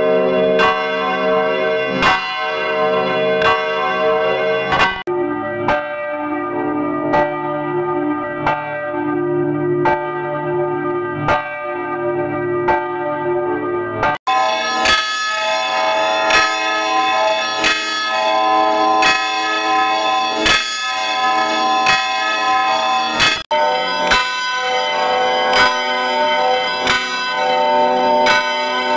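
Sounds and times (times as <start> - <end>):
church bell ringing: 0.0 - 28.9.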